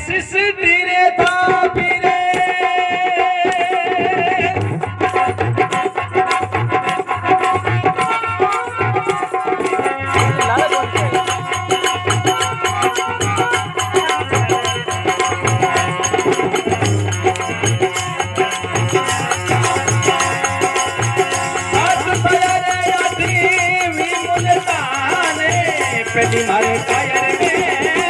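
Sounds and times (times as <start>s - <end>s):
hand drums steady rhythm: 1.2s - 28.0s.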